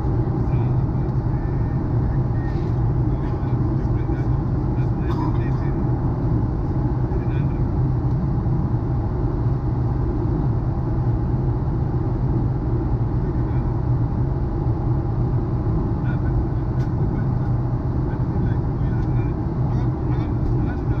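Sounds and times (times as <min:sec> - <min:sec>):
airplane cabin engine roar: 0:00.0 - 0:21.0.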